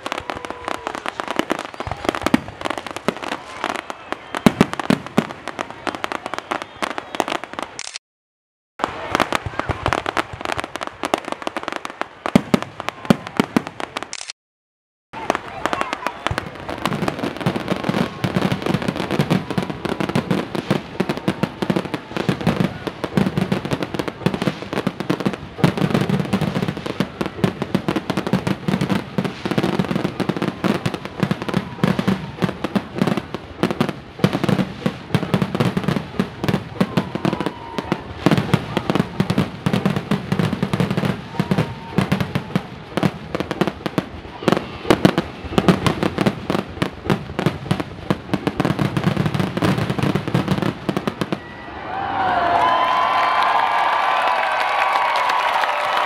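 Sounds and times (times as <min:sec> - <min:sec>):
fireworks bangs and crackles: 0:00.0 - 0:07.8, 0:08.8 - 0:14.2, 0:15.2 - 0:52.0.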